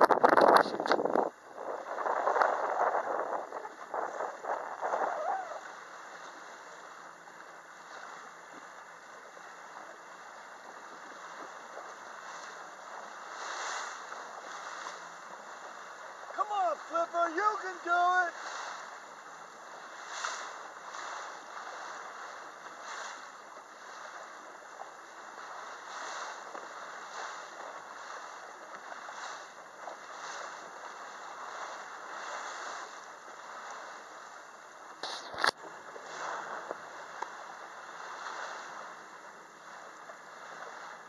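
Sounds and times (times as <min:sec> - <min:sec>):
water lapping against boat hull: 0:00.0 - 0:41.0.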